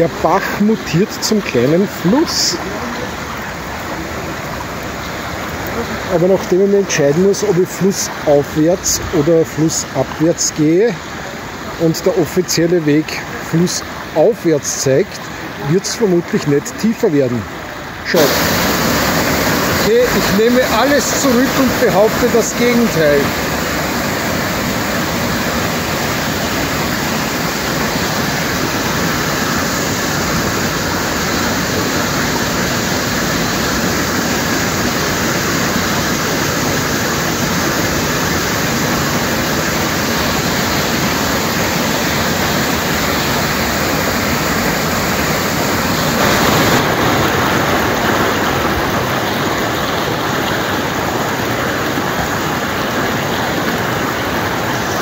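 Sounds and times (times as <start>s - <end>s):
creek water rushing over boulders: 0.0s - 55.0s.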